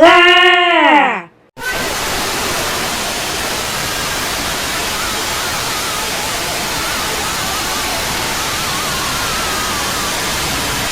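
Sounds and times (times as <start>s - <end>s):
loud static hiss: 1.6s - 10.9s.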